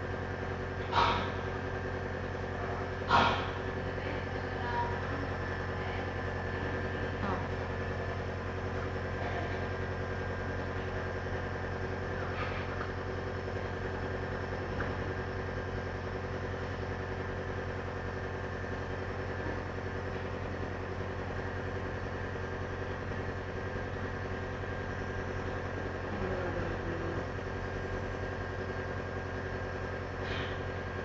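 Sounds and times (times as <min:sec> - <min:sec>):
nebulizer compressor humming: 0:00.0 - 0:31.0.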